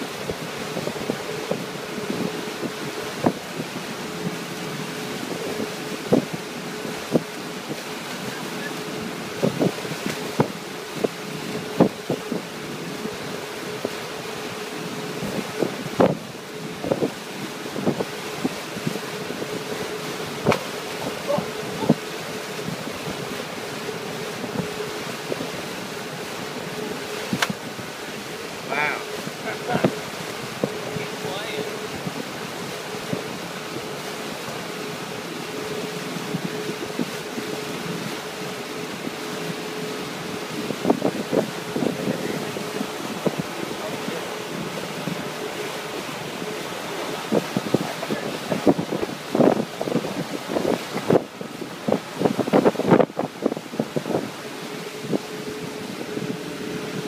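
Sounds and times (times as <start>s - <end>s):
boat wake and spray rushing: 0.0s - 57.0s
engine hum: 0.0s - 57.0s
wind buffeting microphone: 0.0s - 57.0s.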